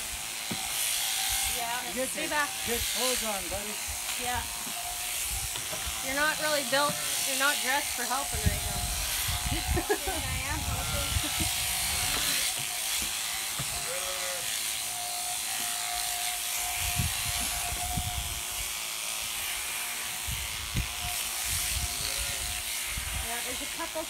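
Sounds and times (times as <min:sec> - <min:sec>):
electric shears whirring: 0:00.0 - 0:24.0.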